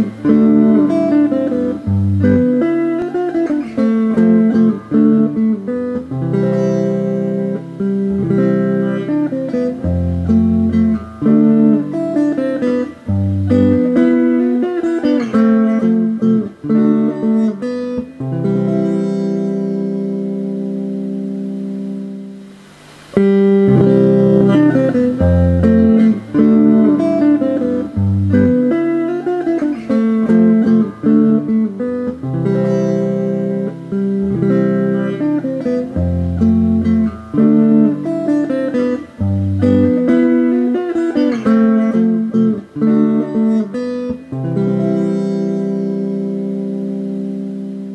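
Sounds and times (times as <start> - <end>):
plucked guitar music: 0.0 - 47.9.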